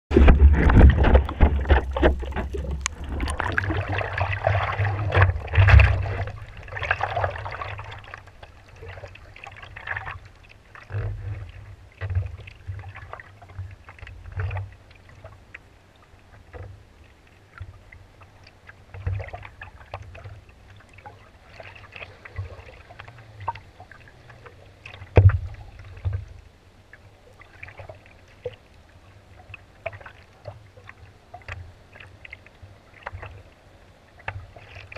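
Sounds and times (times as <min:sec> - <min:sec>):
water sloshing against surfboard: 0:00.1 - 0:34.9
water splashes and knocks: 0:00.1 - 0:34.9.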